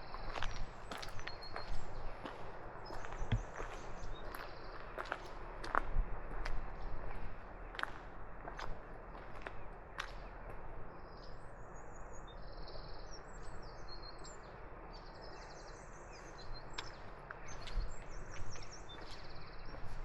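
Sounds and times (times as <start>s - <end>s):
small birds singing: 0.0s - 5.3s, 6.8s - 20.0s.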